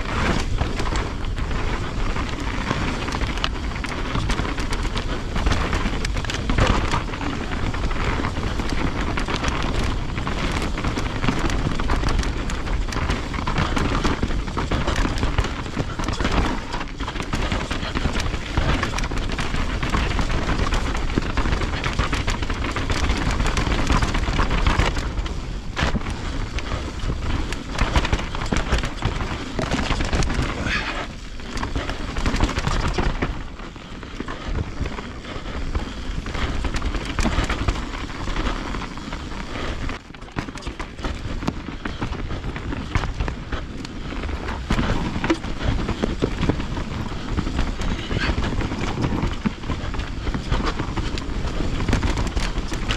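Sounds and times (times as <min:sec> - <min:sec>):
bike knocks and rattles: 0:00.0 - 0:52.9
bike tyre noise: 0:00.0 - 0:52.9
wind buffeting microphone: 0:00.0 - 0:52.9.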